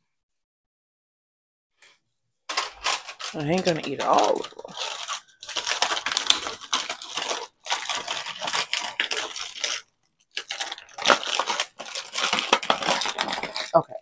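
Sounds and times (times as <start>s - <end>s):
plastic snack bag crinkling: 2.5s - 14.0s.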